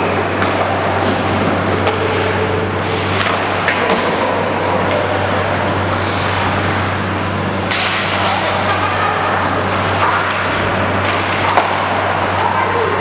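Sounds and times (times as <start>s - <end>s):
hockey sticks and puck clicking: 0.0s - 2.3s, 3.0s - 6.5s, 7.6s - 12.9s.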